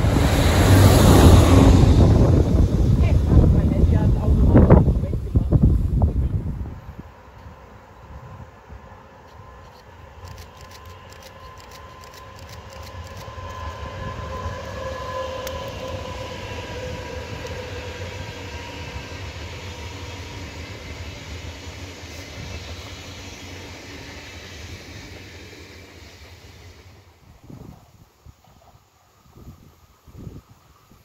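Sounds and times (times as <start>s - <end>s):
train wheels rumbling on rails: 0.0s - 28.7s
electric train whine: 0.0s - 31.0s.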